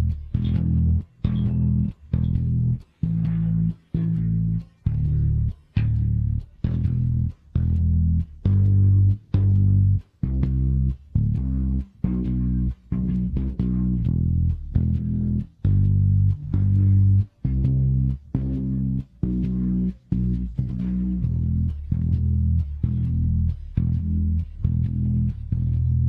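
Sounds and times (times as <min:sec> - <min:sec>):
bass guitar riff: 0:00.0 - 0:26.0.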